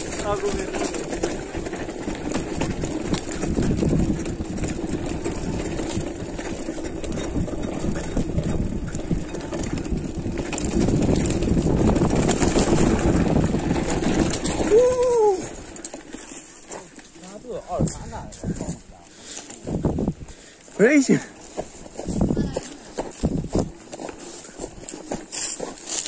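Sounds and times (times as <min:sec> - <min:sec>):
bike tyres rattling on dirt: 0:00.0 - 0:26.0.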